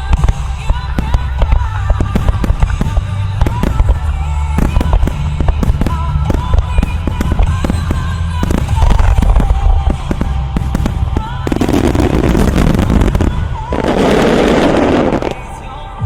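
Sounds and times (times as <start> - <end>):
fireworks sizzling crackle: 0.0 - 15.6
fireworks shells bursting: 0.1 - 15.4
show music: 0.2 - 16.0.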